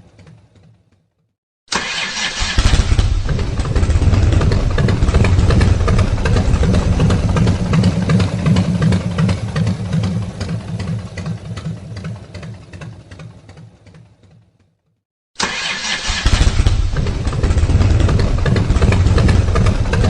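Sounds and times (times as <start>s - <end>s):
fire truck engine pulsing: 1.7s - 13.3s, 15.4s - 20.0s.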